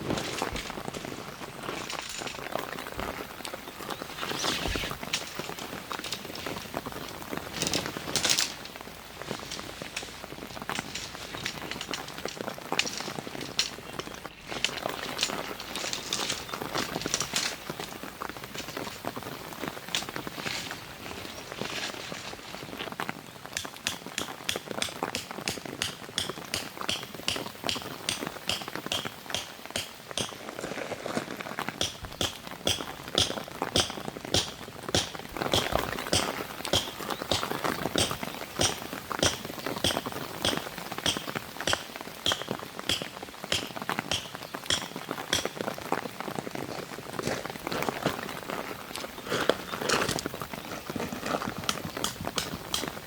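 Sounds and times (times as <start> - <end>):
footsteps crunching on frozen ground: 0.0 - 53.0.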